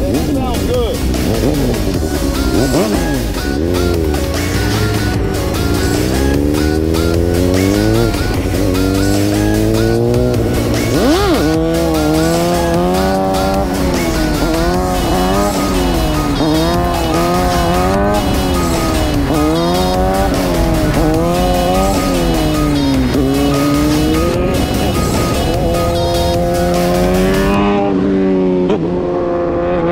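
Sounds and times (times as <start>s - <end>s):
background music: 0.0s - 29.8s
motorcycle engine revving: 0.0s - 29.9s.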